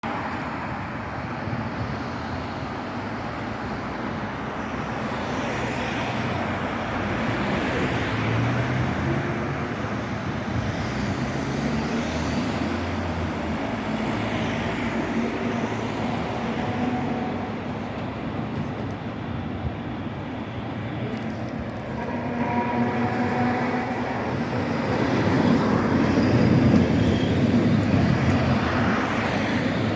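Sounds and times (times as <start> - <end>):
road vehicles passing: 0.0 - 29.9.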